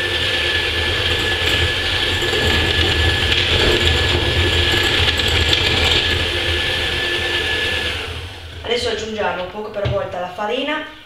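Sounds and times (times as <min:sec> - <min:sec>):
electric hand mixer whisking: 0:00.0 - 0:09.6.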